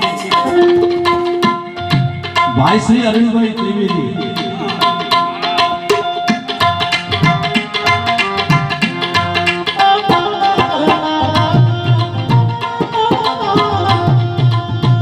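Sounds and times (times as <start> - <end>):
quick tabla rhythm: 0.0 - 15.0
sustained melody line: 0.0 - 15.0.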